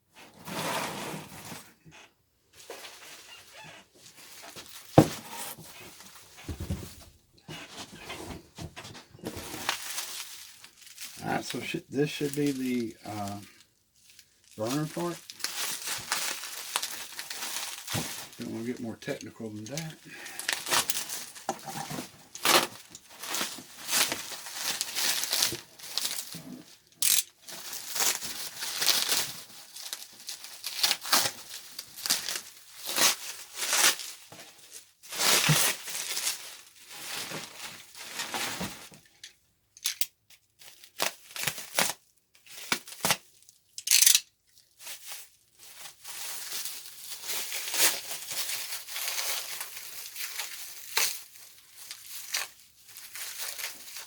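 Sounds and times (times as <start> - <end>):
packing material crinkling and tearing: 9.2 - 54.0.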